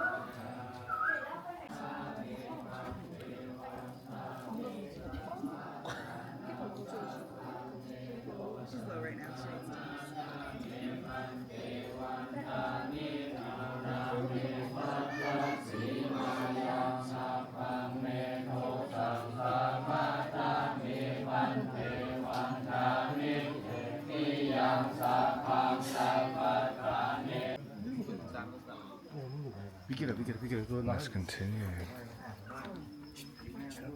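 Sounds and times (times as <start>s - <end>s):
monks chanting in unison: 0.0s - 27.6s.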